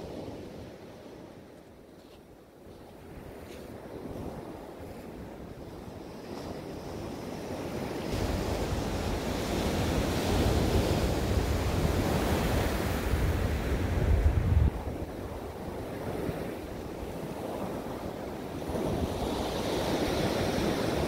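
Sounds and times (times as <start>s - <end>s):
wind buffeting microphone: 2.7s - 21.0s.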